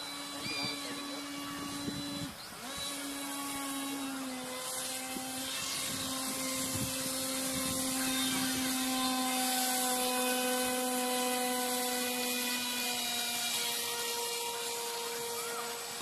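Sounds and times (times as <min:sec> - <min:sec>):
model jet motor whining: 0:00.0 - 0:16.0.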